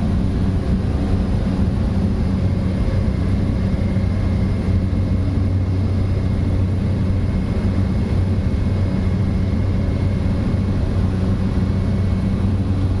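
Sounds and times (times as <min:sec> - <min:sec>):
propeller airplane engine droning: 0:00.0 - 0:13.0.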